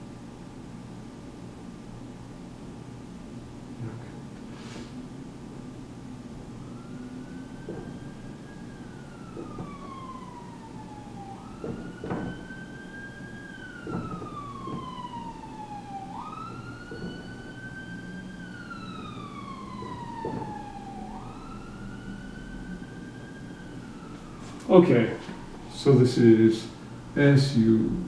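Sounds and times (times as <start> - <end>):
siren wailing: 5.0 - 28.0.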